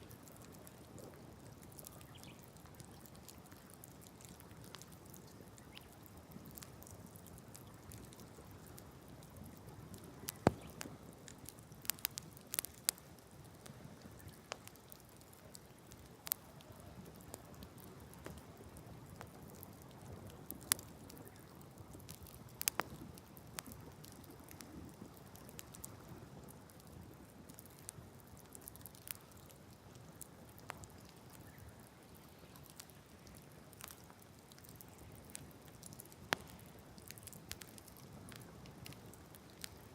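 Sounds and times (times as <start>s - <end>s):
fire low steady hiss: 0.0s - 39.9s
campfire pops and snaps: 0.1s - 39.9s.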